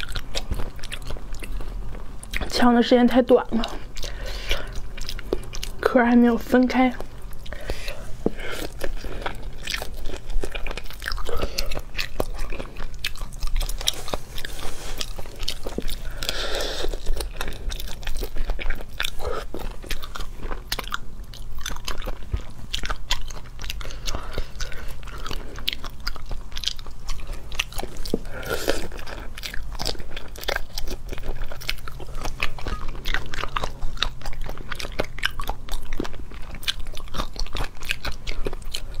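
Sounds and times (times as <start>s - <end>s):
crunchy shell chewing: 0.0s - 39.0s
steady low hum: 0.0s - 39.0s.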